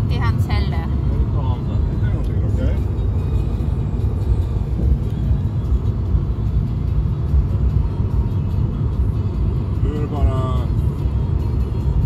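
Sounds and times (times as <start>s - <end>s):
car road and tyre rumble: 0.0s - 12.0s.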